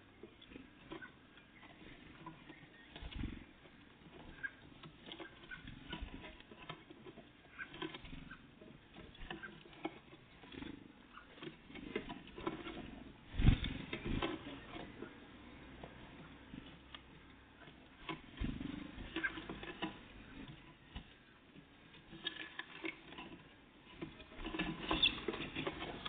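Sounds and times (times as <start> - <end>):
birds pecking at feeder: 0.0 - 26.0.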